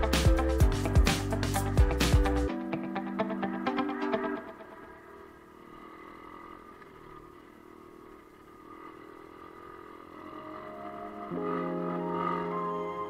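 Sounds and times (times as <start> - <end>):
pit bike engine running: 0.0 - 13.0.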